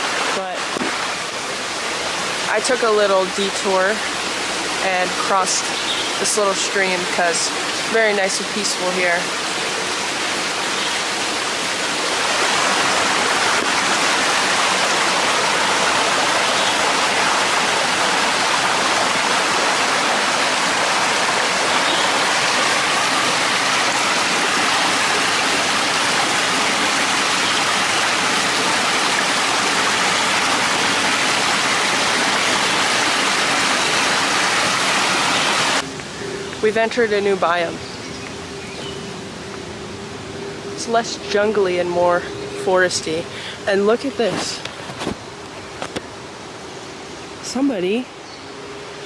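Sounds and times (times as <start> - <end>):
small stream rushing: 0.0 - 49.0.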